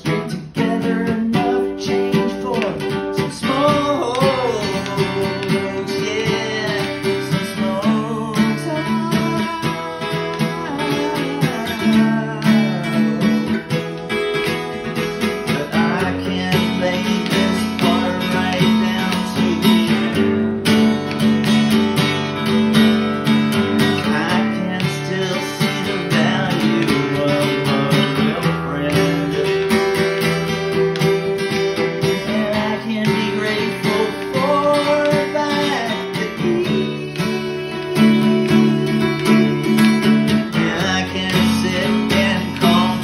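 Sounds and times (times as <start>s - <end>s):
acoustic guitar strumming: 0.0s - 43.0s
man singing: 0.0s - 43.0s.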